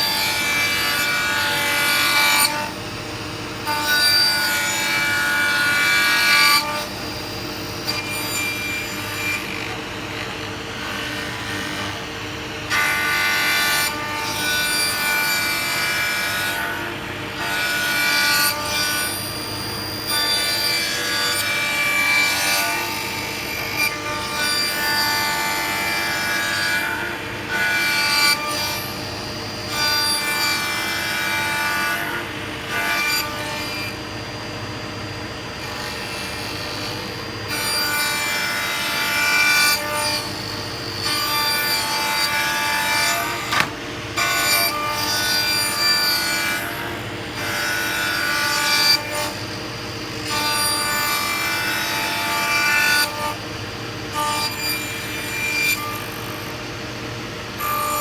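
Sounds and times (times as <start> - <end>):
power saw cutting wood: 0.0 - 58.0.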